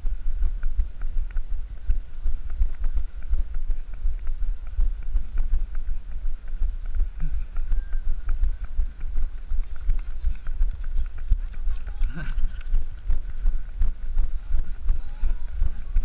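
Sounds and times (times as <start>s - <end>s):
wind rumble on microphone: 0.0s - 16.0s
footsteps on asphalt: 0.1s - 16.0s.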